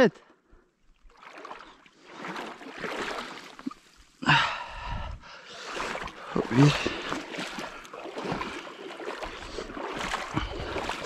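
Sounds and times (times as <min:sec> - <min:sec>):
water sloshing and splashing: 0:00.5 - 0:11.0.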